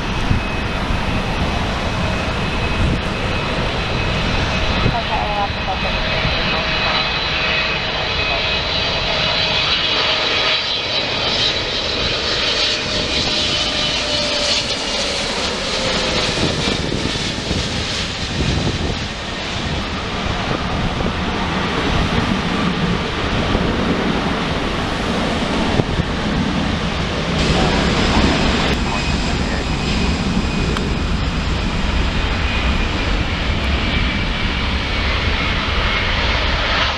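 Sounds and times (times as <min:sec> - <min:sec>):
high jet engine whine: 0:00.0 - 0:36.9
jet airliner roar: 0:00.0 - 0:36.9.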